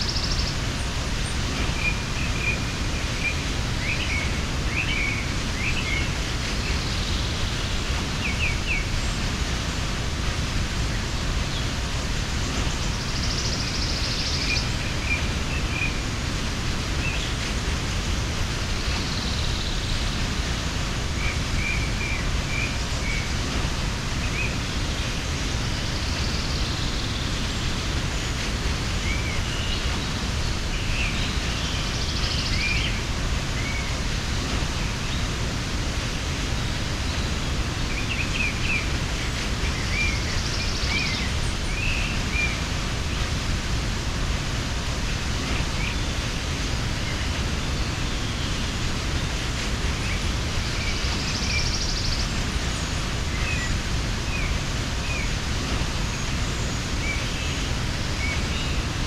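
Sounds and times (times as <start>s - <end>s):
small birds chirping: 0.0s - 59.0s
waterfall roaring: 0.0s - 59.0s.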